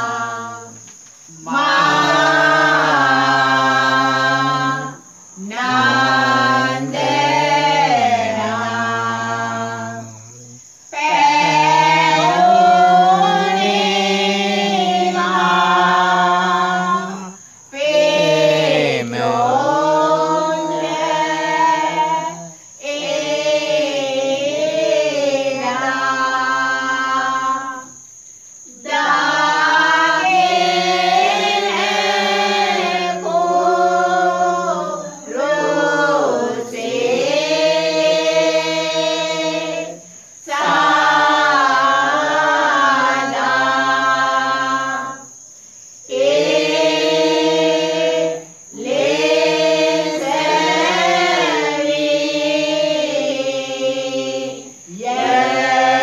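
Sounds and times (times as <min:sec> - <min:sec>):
group singing hymns: 0:00.0 - 0:28.0, 0:28.6 - 0:56.0.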